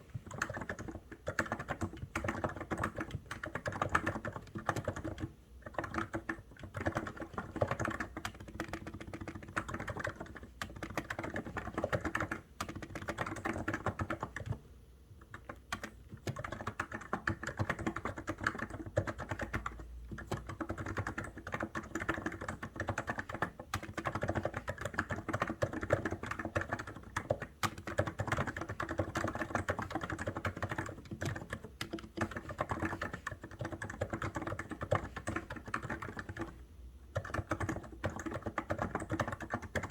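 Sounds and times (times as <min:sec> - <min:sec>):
fast typing on a keyboard: 0:00.1 - 0:14.6, 0:15.2 - 0:39.9.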